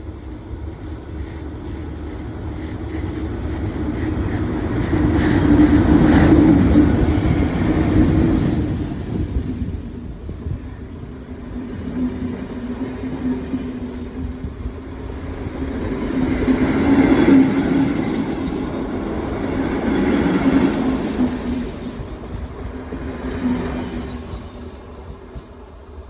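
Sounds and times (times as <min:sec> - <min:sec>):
electric locomotive humming: 0:00.0 - 0:26.0
train rolling on rails: 0:00.0 - 0:26.0.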